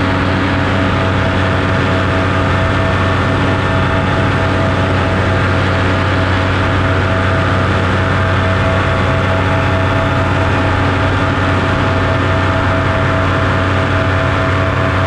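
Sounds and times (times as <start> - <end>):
aircraft motor drone: 0.0 - 15.0.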